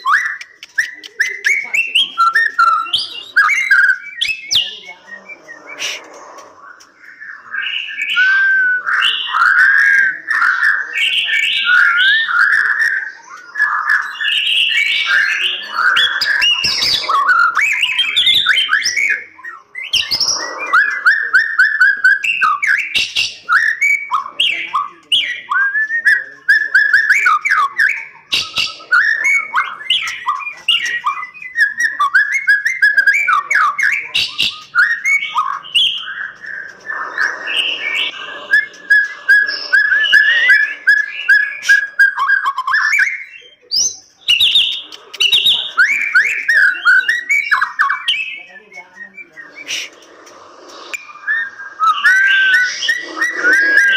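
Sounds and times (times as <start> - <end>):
bird singing whistled phrases: 0.0 - 53.9.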